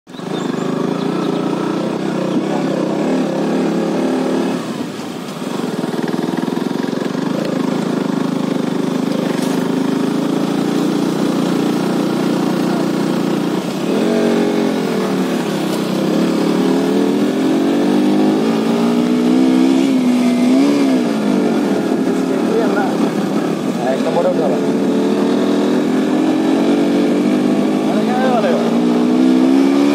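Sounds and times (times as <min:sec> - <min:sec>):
motorcycle engine under load: 0:00.1 - 0:29.9.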